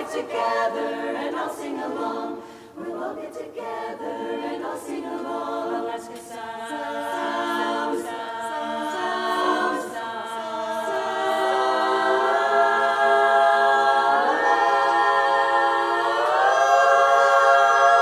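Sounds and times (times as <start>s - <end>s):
women's chorus singing a cappella: 0.0s - 18.0s.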